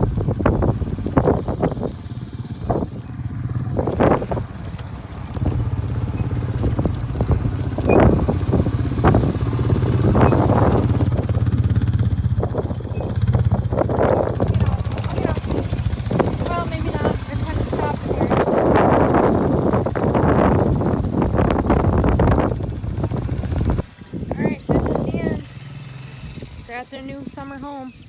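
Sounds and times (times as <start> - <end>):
rushing bursts: 0.0 - 27.9
vehicle engine droning: 0.0 - 28.0.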